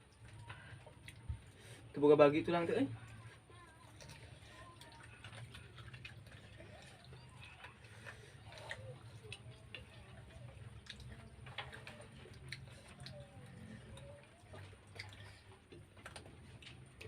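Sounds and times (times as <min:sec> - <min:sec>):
wet smacking chewing: 0:00.0 - 0:01.8, 0:03.0 - 0:17.0.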